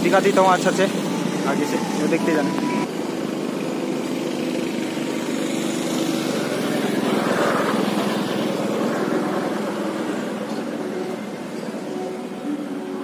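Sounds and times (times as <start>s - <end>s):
go-kart engines buzzing: 0.0s - 13.0s.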